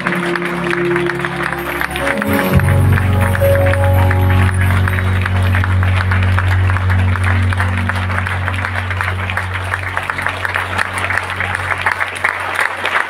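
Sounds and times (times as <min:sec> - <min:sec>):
deep bass note: 0:00.0 - 0:12.1
audience applauding: 0:00.0 - 0:13.0.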